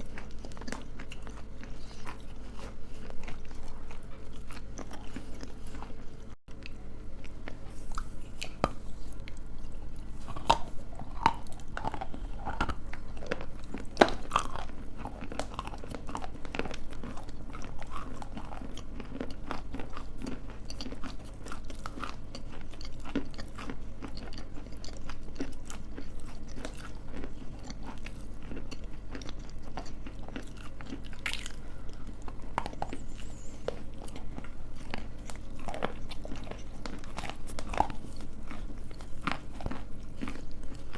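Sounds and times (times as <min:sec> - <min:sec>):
crunching and chewing: 0:00.0 - 0:40.9.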